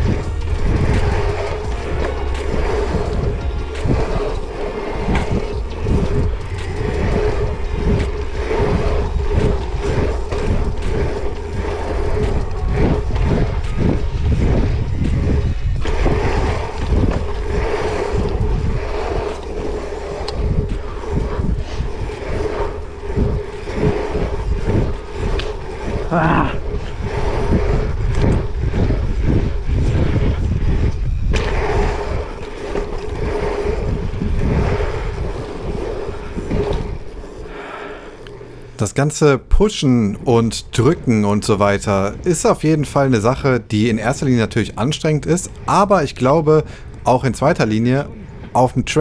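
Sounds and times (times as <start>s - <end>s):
bike tyres rolling on asphalt: 0.0s - 49.0s
steady hum: 0.0s - 49.0s
wind rumble on microphone: 0.0s - 49.0s.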